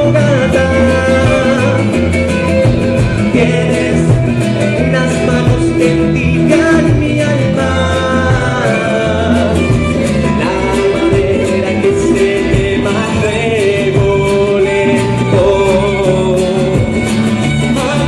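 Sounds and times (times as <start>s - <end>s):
guitar: 0.0s - 18.0s
live band folk-style song: 0.0s - 18.0s
steady bass line: 0.0s - 18.0s.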